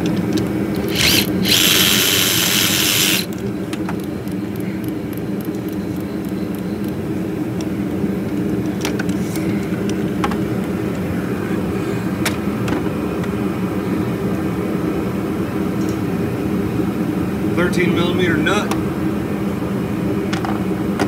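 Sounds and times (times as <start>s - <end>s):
space heater droning: 0.0s - 21.0s.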